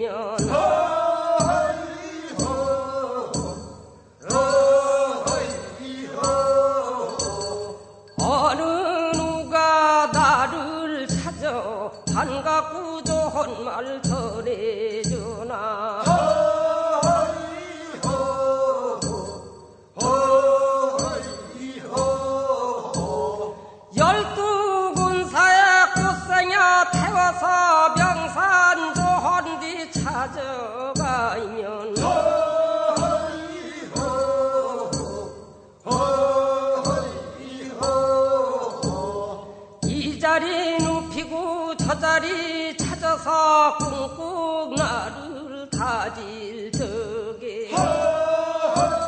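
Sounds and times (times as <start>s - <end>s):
voices singing a chant: 0.0s - 49.0s
sharp struck beat: 0.4s - 30.4s, 32.0s - 40.2s, 40.8s - 44.2s, 47.7s - 49.0s.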